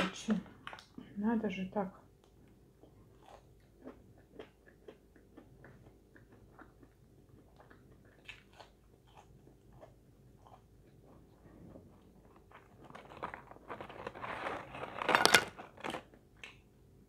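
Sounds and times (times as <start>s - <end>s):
crunchy chewing of fried snacks: 2.0s - 16.8s.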